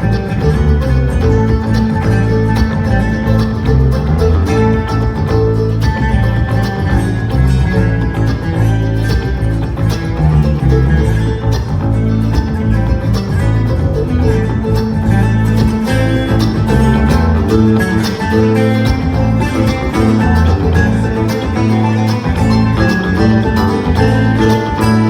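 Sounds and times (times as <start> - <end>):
banjo picking: 0.0 - 25.0
bluegrass band playing: 0.0 - 25.0
guitar picking: 0.0 - 25.0
low bass line: 0.0 - 25.0.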